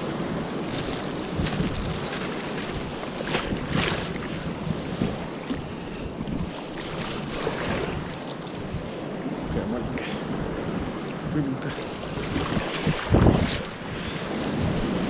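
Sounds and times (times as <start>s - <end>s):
sea water sloshing and splashing: 0.0s - 9.2s, 11.7s - 15.0s
wind buffeting microphone: 0.0s - 15.0s.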